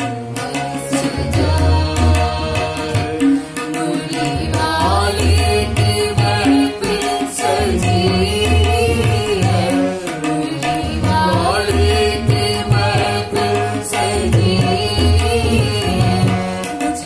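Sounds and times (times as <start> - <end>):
hand drum percussion: 0.0 - 17.0
man and woman singing devotional song: 0.0 - 17.0.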